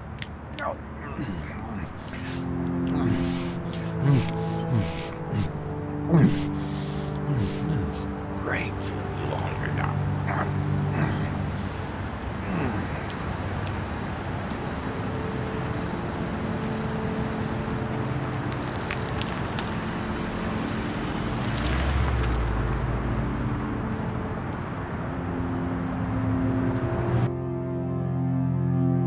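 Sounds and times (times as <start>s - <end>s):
cars driving past: 1.6s - 27.3s.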